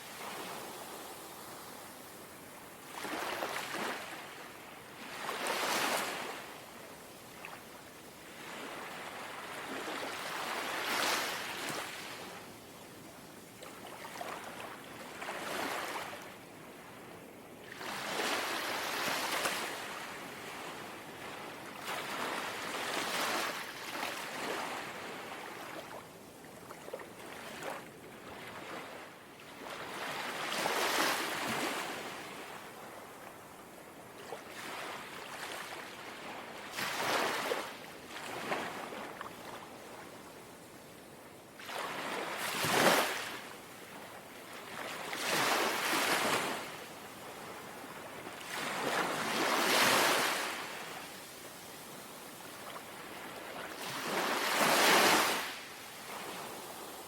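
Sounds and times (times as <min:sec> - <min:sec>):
small waves lapping at shore: 0:00.0 - 0:57.0.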